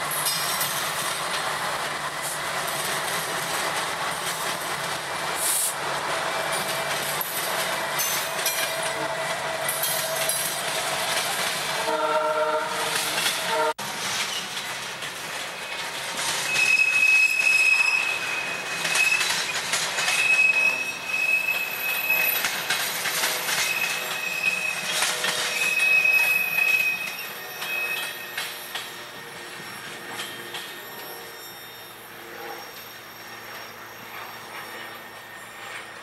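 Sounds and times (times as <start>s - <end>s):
freight cars rumbling and clattering: 0.0s - 11.9s, 12.8s - 31.3s
steel wheel squeal: 0.0s - 14.6s, 15.3s - 36.0s.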